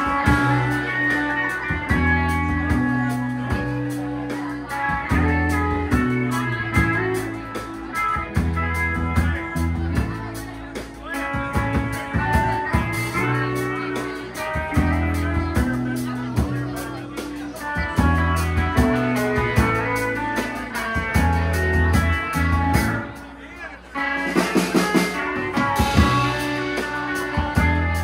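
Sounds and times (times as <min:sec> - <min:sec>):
drum kit: 0:00.0 - 0:28.0
electric guitars: 0:00.0 - 0:28.0
low bass notes: 0:00.0 - 0:28.0.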